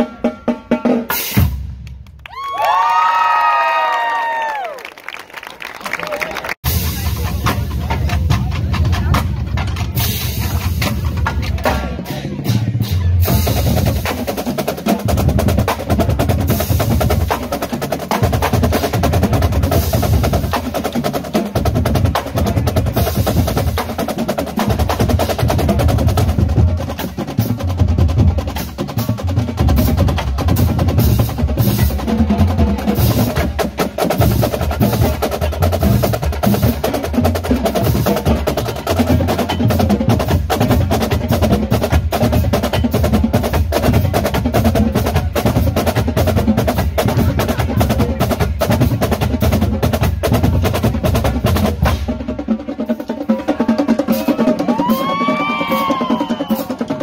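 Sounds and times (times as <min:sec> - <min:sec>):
bass drums: 0:06.6 - 0:57.0
marching snare drums: 0:06.6 - 0:57.0.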